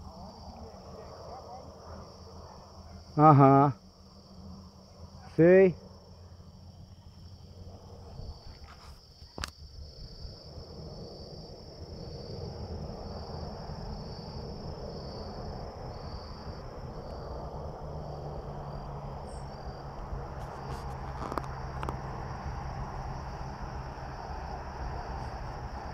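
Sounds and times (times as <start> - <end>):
insects trilling: 0.0 - 25.9.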